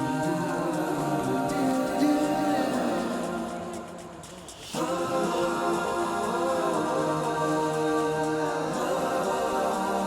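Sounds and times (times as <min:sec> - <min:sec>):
music with long-held singing: 0:00.0 - 0:10.0.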